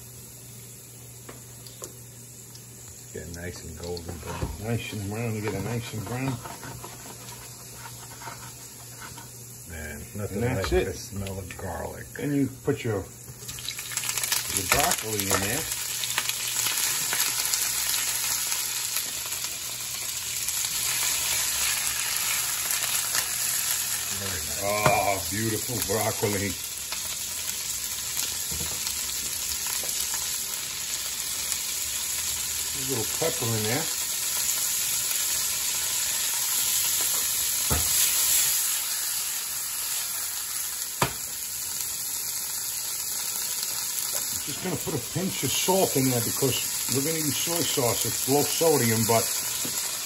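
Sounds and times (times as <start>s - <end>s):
vegetables sizzling in oil: 0.0s - 50.0s.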